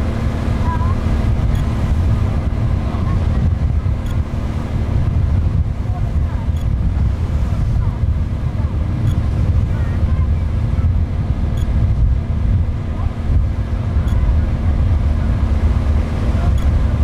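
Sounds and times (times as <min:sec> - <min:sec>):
ferry engine droning: 0:00.0 - 0:17.0
wind buffeting microphone: 0:00.0 - 0:17.0.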